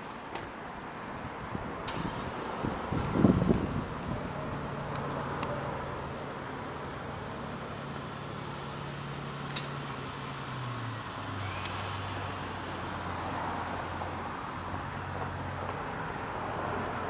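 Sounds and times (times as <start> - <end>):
traffic hiss: 0.0 - 17.0
wind: 0.0 - 17.0.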